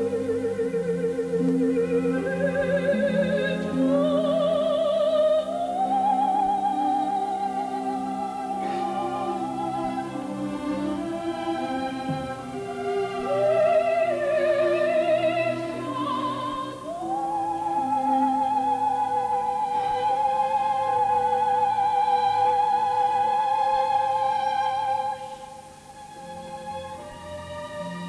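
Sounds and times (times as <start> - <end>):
operatic soprano singing: 0.0 - 28.0
orchestral accompaniment: 0.0 - 28.0.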